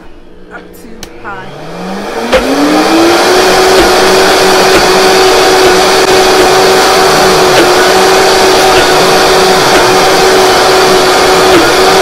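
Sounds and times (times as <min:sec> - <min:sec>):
blender motor running: 0:01.4 - 0:12.0.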